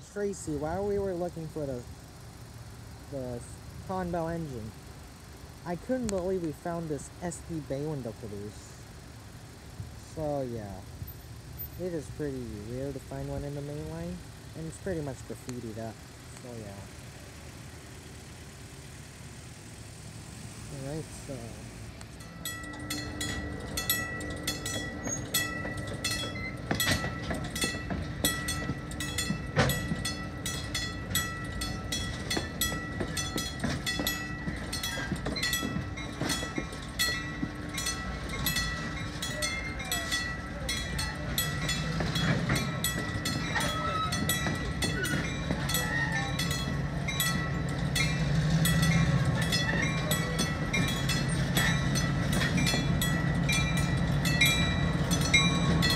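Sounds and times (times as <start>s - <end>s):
train wheels clicking over rail joints: 0.0s - 19.1s, 20.2s - 55.9s
deep train rumble: 0.0s - 55.9s
thin steady squeal: 0.0s - 55.9s.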